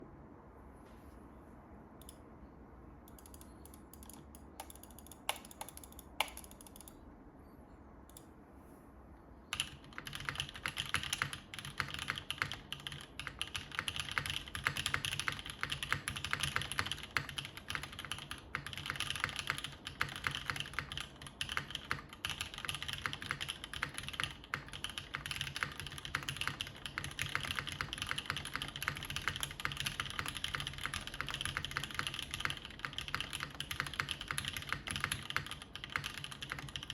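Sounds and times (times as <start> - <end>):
mechanical keyboard typing: 3.1 - 7.0, 9.5 - 36.9.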